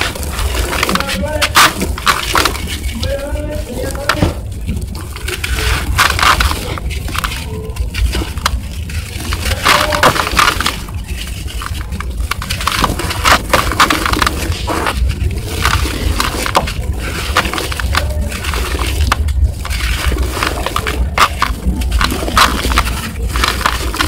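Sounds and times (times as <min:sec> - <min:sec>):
dirt clods crunching: 0:00.0 - 0:24.0
grit falling into bucket: 0:00.0 - 0:24.0.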